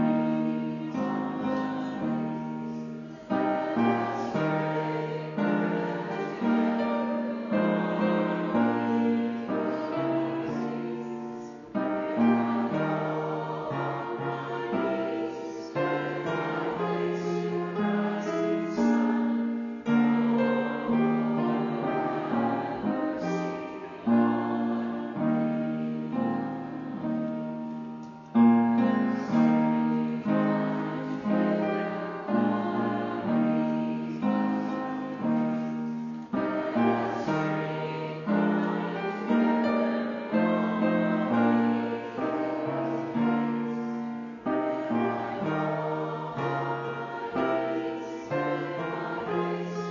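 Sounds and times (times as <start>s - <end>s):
slow piano chords: 0.0s - 49.9s.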